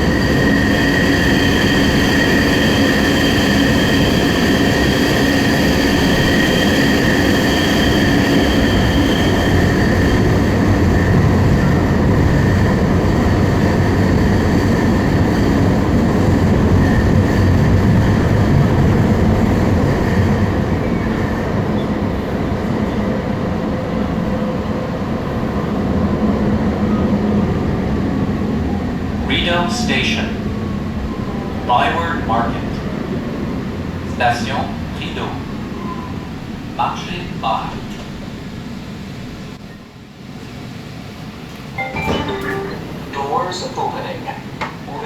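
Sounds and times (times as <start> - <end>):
train wheels rumbling on rail: 0.0 - 41.7.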